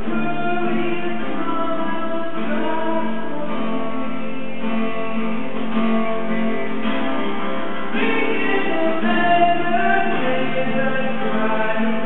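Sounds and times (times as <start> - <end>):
guitar chords: 0.0 - 12.0.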